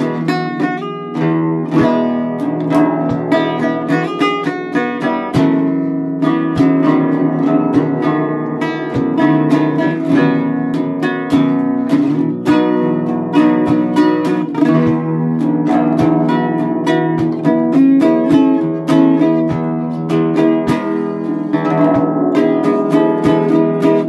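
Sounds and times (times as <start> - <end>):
fingerpicked guitar: 0.0 - 24.0.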